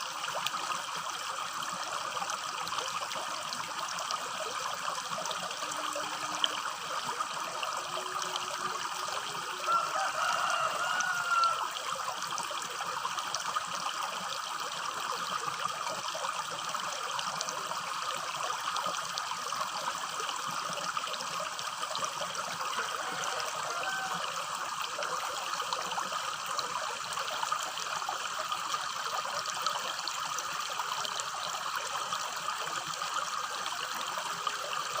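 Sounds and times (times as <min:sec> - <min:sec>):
stream babbling over rocks: 0:00.0 - 0:35.0.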